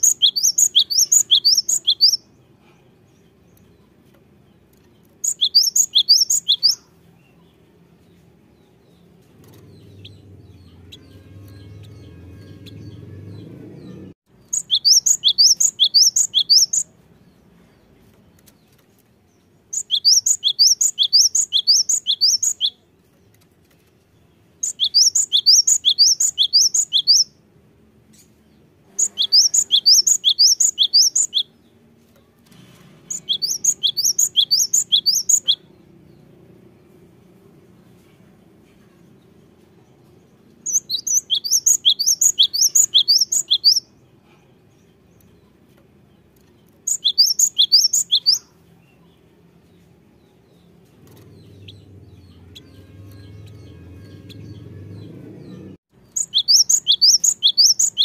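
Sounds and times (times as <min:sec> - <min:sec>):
bird singing: 0:00.0 - 0:23.4, 0:24.2 - 0:27.4, 0:28.1 - 0:32.3, 0:33.1 - 0:37.1, 0:39.8 - 0:58.0.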